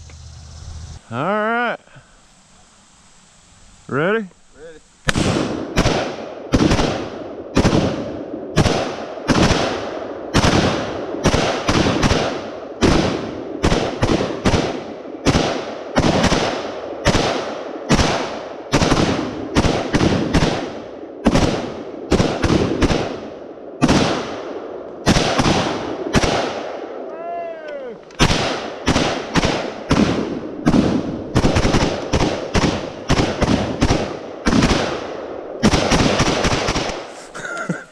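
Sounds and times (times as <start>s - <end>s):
semi-automatic gunshots echoing: 5.1s - 27.0s, 28.2s - 37.1s.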